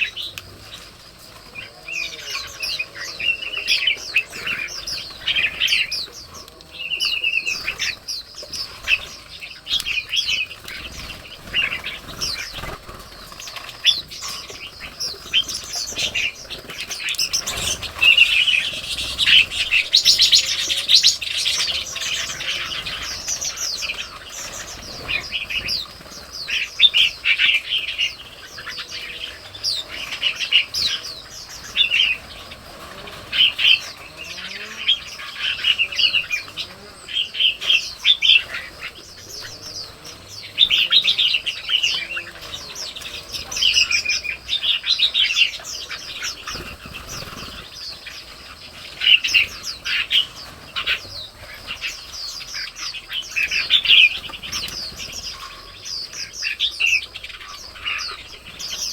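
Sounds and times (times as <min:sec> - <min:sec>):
songbirds chirping and singing: 0:00.0 - 0:58.9.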